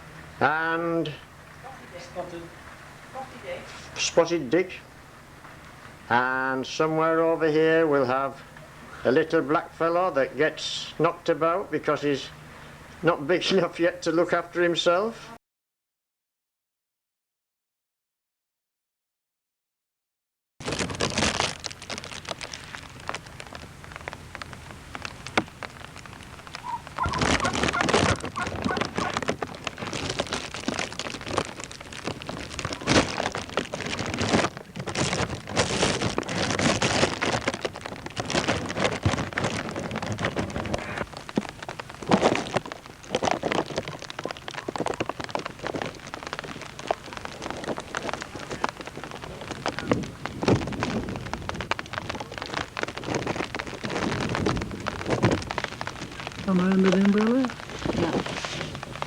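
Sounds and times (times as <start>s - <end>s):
rain falling: 0.0s - 14.0s, 20.6s - 59.0s.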